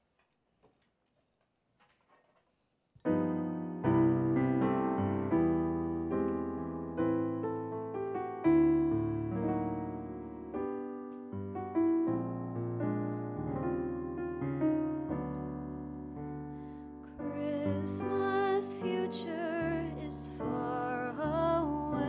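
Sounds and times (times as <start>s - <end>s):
slow piano chords: 3.0s - 22.0s.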